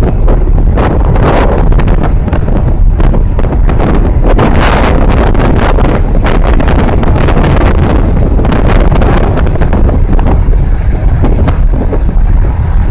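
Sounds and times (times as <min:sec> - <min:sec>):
deep rumble: 0:00.0 - 0:12.9
wind buffeting microphone: 0:00.0 - 0:12.9.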